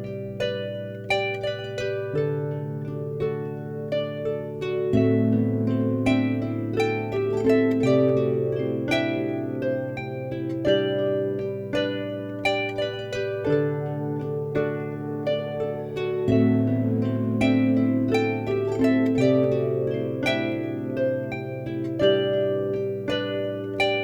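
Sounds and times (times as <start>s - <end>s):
plucked harp notes: 0.0s - 24.0s.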